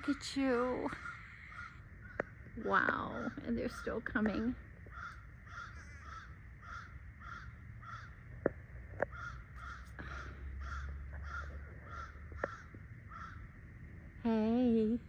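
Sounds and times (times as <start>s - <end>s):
flock of birds calling: 0.0s - 8.3s, 9.0s - 13.4s.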